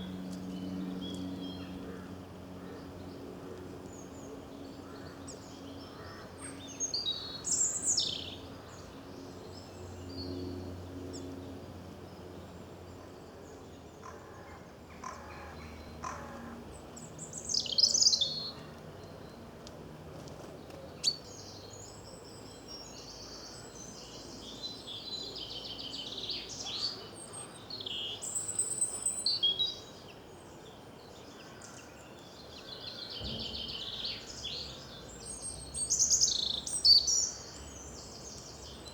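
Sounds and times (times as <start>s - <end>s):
small birds singing and chirping: 0.0s - 14.1s, 15.0s - 19.7s, 20.6s - 38.9s.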